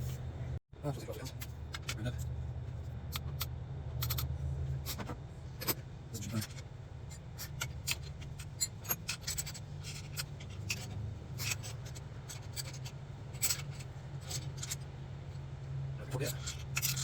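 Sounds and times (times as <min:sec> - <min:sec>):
steady low hum: 0:00.0 - 0:17.0
hand tools clicking and scraping: 0:03.1 - 0:17.0.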